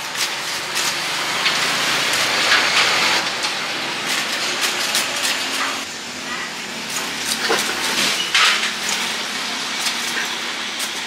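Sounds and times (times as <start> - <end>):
charcoal clinking against metal: 0.0 - 11.0.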